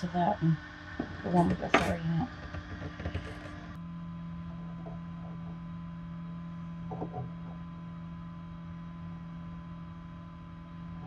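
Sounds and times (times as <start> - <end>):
incubator fan humming: 0.0 - 11.0.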